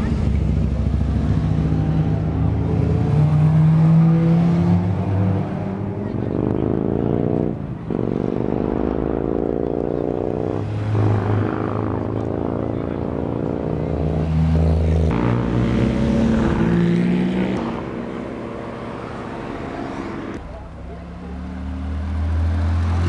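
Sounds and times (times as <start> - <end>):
car engines accelerating past: 0.0 - 23.0.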